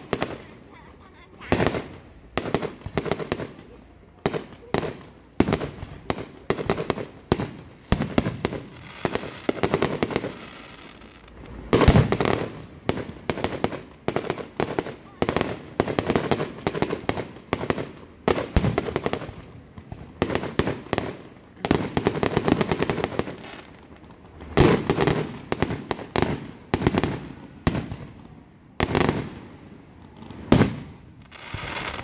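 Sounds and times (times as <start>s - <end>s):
fireworks crackling and popping: 0.0s - 32.0s
fireworks booms: 1.4s - 32.0s.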